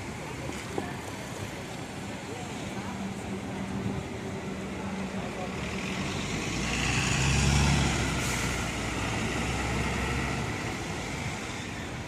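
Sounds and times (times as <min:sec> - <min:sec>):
street traffic noise: 0:00.0 - 0:12.0
bus engine passing: 0:00.1 - 0:12.0.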